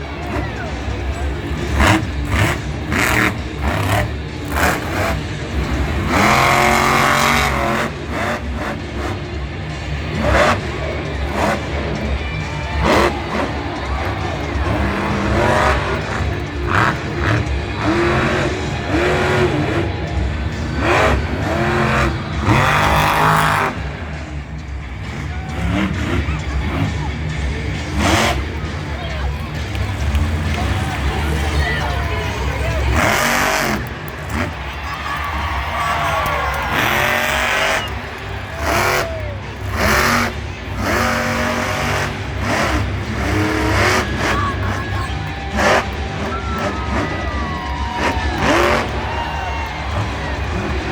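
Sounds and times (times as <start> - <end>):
monster truck engines revving: 0.0 - 50.9.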